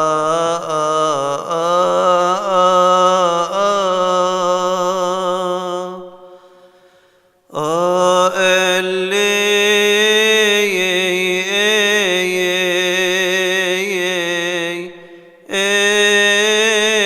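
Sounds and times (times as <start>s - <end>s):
man chanting unaccompanied: 0.0s - 6.2s, 7.5s - 17.0s.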